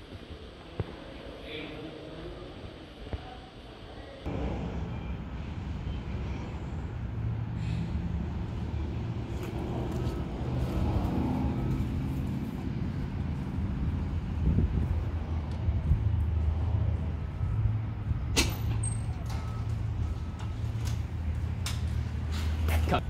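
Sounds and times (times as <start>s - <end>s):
low mechanical drone: 4.2s - 23.0s.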